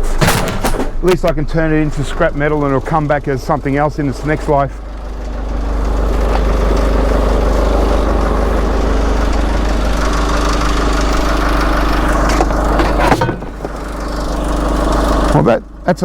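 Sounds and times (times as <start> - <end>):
engine running with deep rumble: 0.0 - 16.0.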